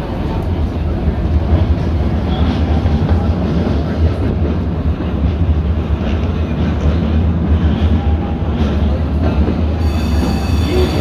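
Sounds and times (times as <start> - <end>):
streetcar rumbling on rails: 0.0 - 11.0.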